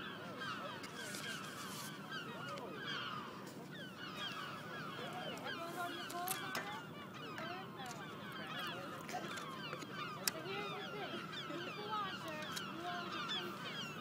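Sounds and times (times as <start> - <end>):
flock of birds chirping and honking: 0.0 - 14.0.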